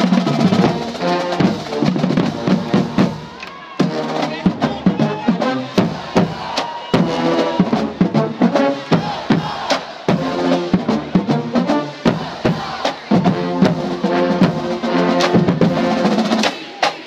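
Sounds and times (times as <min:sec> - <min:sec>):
bass drums: 0:00.0 - 0:16.4
marching band playing: 0:00.0 - 0:17.0.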